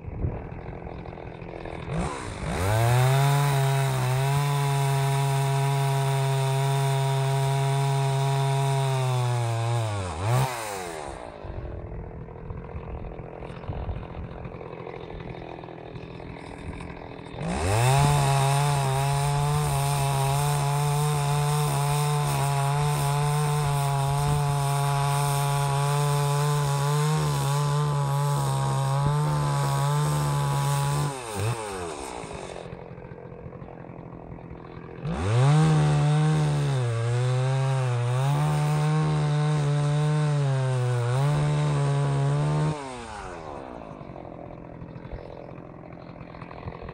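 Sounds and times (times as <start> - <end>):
chainsaw cutting wood: 0.0 - 46.9
chainsaw idling and revving: 0.0 - 46.9.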